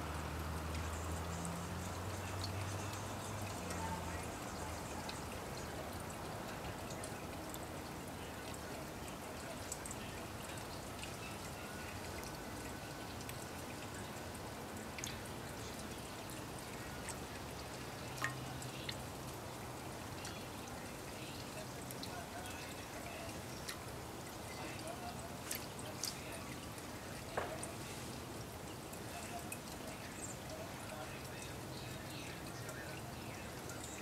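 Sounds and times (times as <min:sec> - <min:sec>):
bird splashing water: 0:00.0 - 0:34.0.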